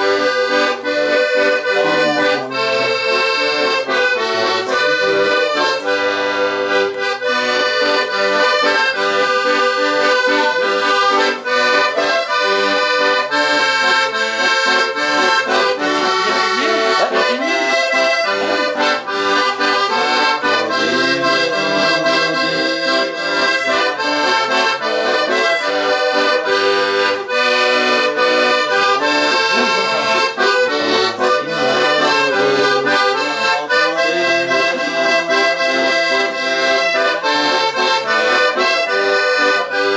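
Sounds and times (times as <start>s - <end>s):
accordion playing a tune: 0.0s - 39.9s.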